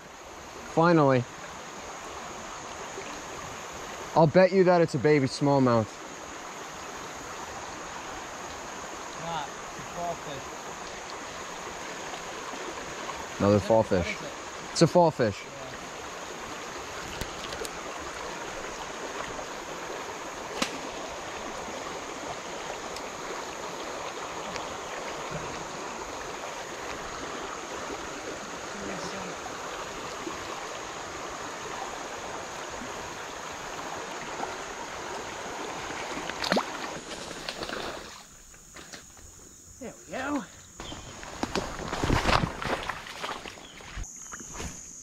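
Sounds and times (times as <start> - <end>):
creek water rushing: 0.0 - 38.8, 40.1 - 44.1.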